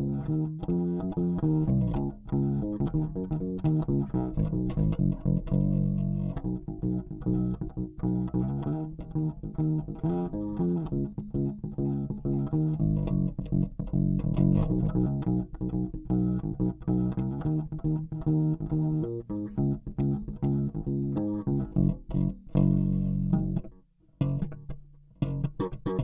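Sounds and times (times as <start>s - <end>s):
electric bass plucked fingerstyle: 0.0s - 26.0s.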